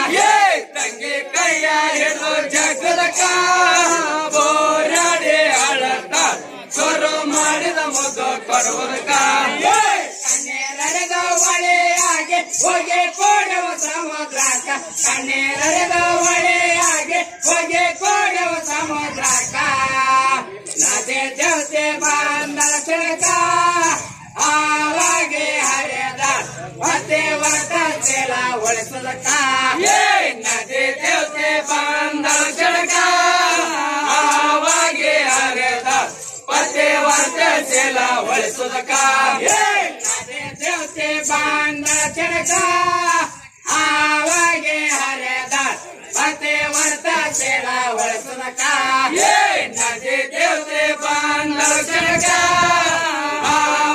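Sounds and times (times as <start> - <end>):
group singing devotional song: 0.0 - 53.9.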